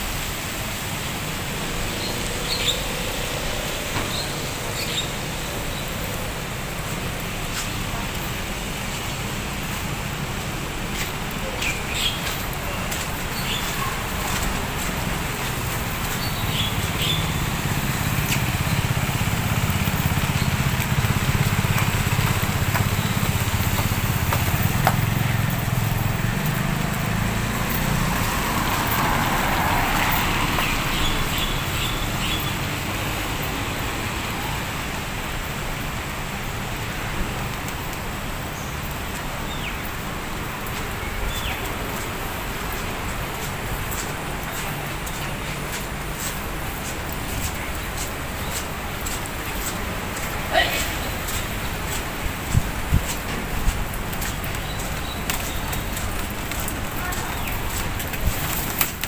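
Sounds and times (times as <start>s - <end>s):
rumble of passing cars: 0.0s - 59.0s.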